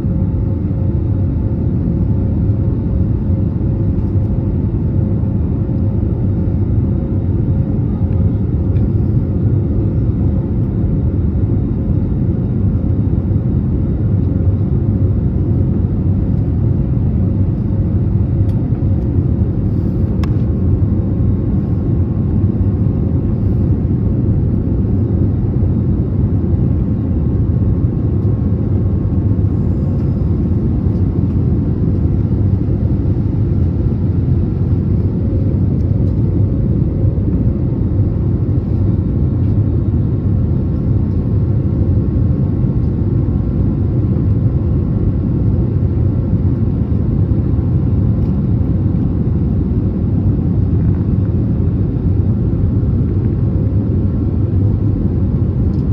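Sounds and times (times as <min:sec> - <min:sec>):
airplane cabin engine rumble: 0:00.0 - 0:55.9
faint steady hum: 0:00.0 - 0:55.9.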